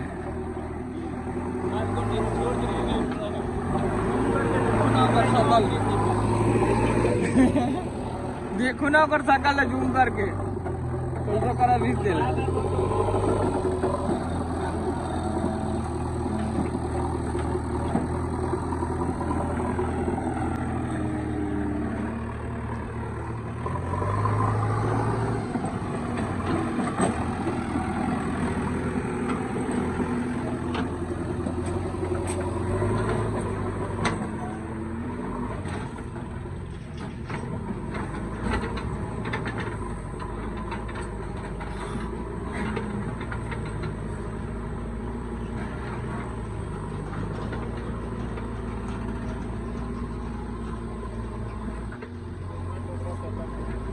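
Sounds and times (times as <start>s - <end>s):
diesel engines working under load: 0.0s - 53.9s.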